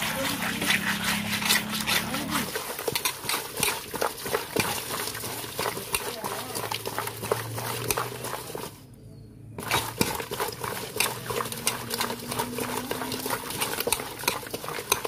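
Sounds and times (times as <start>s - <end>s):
fish clicking against metal pot: 0.0s - 8.7s, 9.6s - 15.0s
wet squelching of fish: 0.0s - 8.8s, 9.6s - 15.0s.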